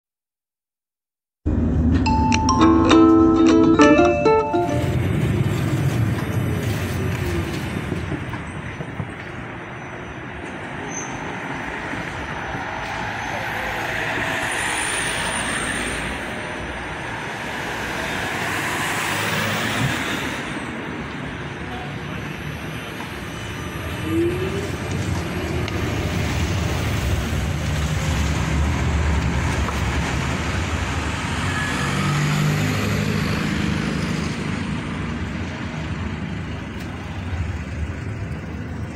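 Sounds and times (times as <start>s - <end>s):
road traffic engines: 1.5s - 38.9s
tram rolling on rails: 1.5s - 38.9s.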